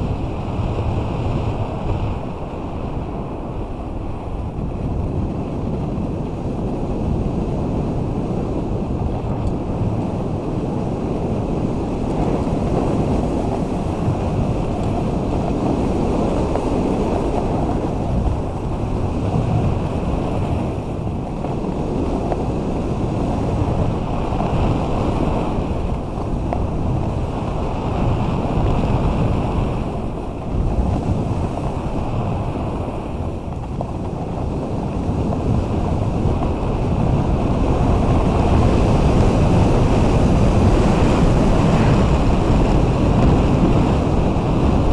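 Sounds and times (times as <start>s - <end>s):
snowboard scraping over snow: 0.0s - 44.9s
wind buffeting microphone: 0.0s - 44.9s.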